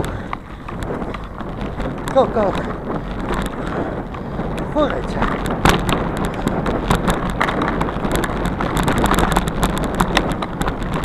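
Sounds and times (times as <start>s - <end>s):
bicycle tyre rumble: 0.0s - 11.0s
bike rattles and clicks: 0.0s - 11.0s
wind buffeting microphone: 0.0s - 11.0s.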